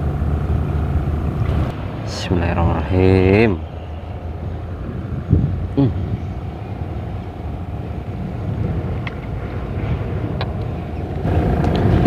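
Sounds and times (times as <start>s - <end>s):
faint constant hum: 0.0s - 12.0s
low rumble: 0.0s - 12.0s.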